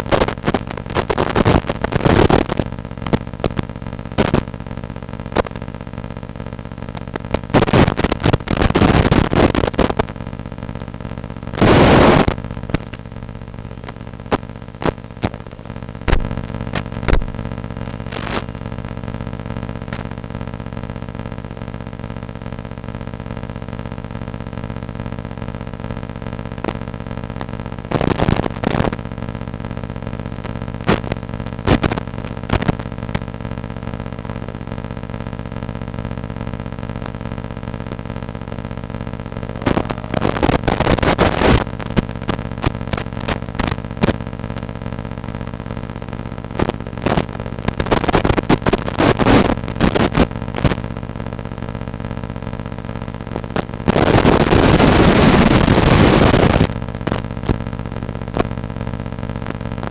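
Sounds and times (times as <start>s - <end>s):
bursts of static noise: 0.0s - 59.9s
steady hum of held tones: 9.6s - 28.0s, 28.6s - 59.9s.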